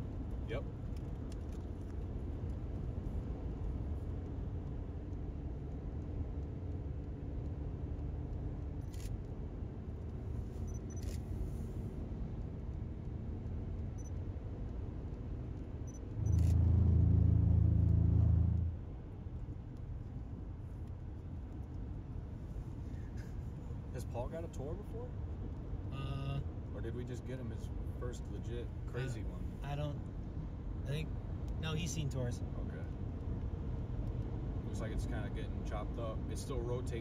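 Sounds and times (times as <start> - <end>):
road and tyre noise in car: 0.0 - 37.0.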